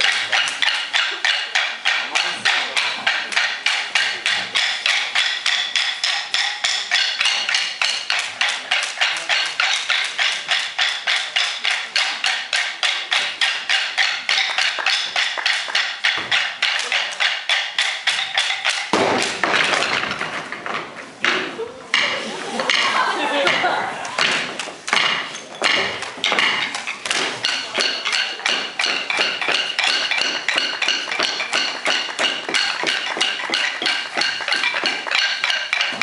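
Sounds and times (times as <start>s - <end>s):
wooden sticks clacking: 0.0s - 36.0s.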